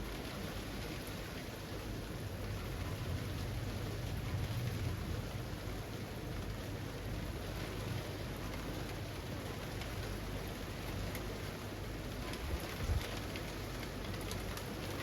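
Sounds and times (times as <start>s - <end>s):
rain falling through trees: 0.0s - 15.0s.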